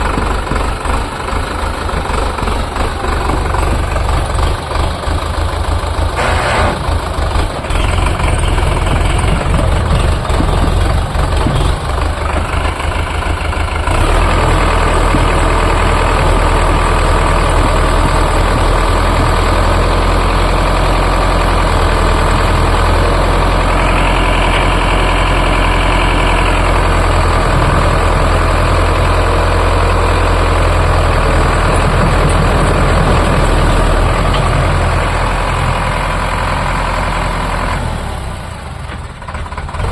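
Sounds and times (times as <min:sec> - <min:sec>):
tractor diesel engine chugging: 0:00.0 - 0:39.9.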